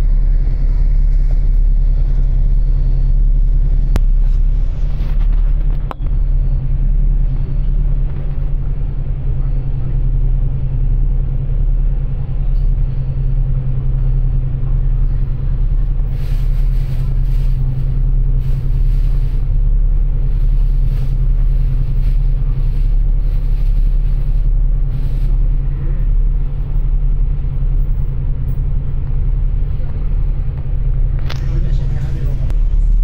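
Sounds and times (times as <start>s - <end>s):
bus engine drone: 0.0s - 33.0s.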